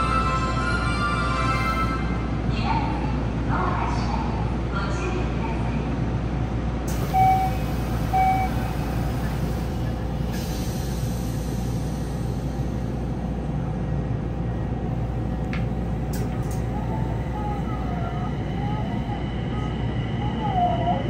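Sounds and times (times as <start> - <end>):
train low hum: 0.0 - 21.0.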